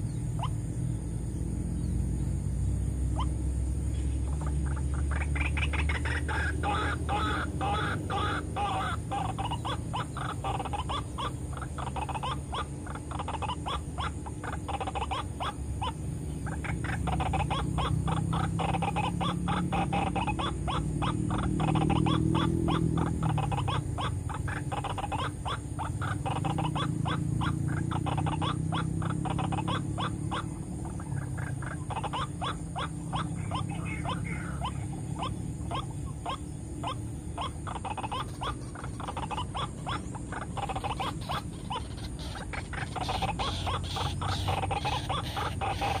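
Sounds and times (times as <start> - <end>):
low steady rumble: 0.0 - 46.0
waterhen calling harsh notes: 4.2 - 46.0.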